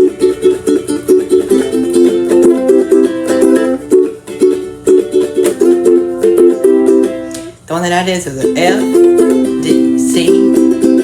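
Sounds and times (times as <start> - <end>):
ukulele strummed in chords: 0.0 - 11.0.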